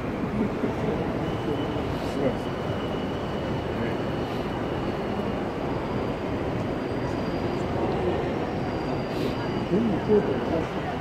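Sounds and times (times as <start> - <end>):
distant crowd voices: 0.0 - 11.0
echoing station hall din: 0.0 - 11.0.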